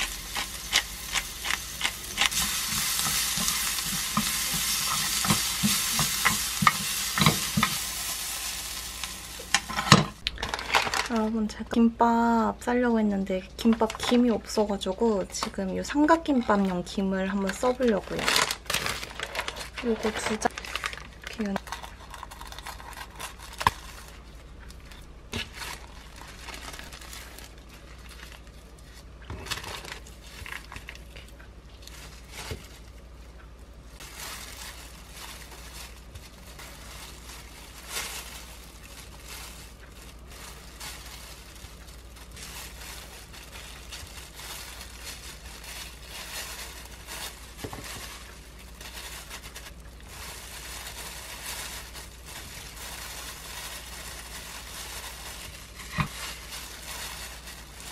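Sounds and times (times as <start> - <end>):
plastic film crinkling: 0.0 - 11.6, 13.4 - 57.9
plastic gloves rustling: 0.0 - 57.9.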